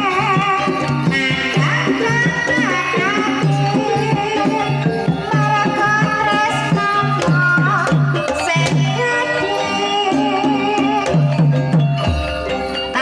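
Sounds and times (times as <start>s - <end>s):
gamelan music: 0.0s - 13.0s
hand drum pattern: 0.0s - 13.0s.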